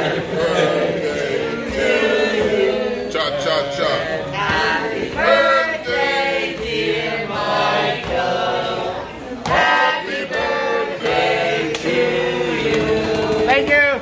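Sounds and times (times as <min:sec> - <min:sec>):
voices singing together: 0:00.0 - 0:13.8.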